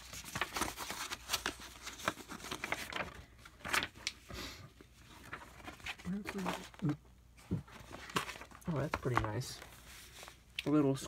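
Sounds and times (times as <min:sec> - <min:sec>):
paper and packaging rustling: 0:00.0 - 0:11.0.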